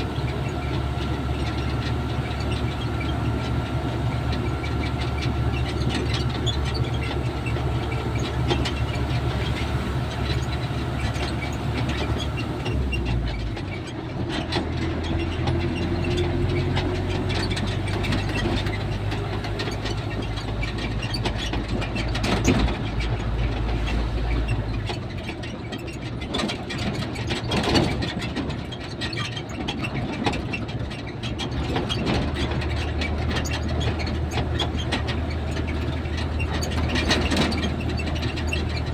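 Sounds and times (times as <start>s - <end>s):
vehicle engine humming: 0.0s - 27.0s, 30.7s - 38.9s
rattles and knocks: 0.0s - 28.4s, 31.3s - 38.9s.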